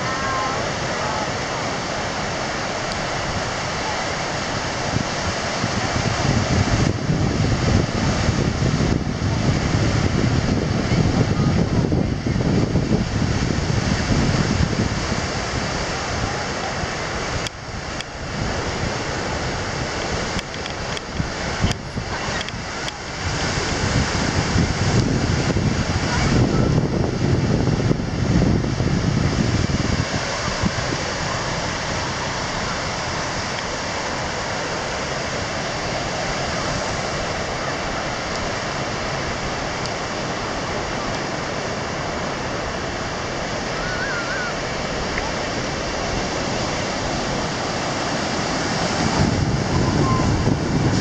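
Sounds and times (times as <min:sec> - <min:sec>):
ocean surf breaking on beach: 0:00.0 - 0:51.0
wind buffeting microphone: 0:00.0 - 0:51.0.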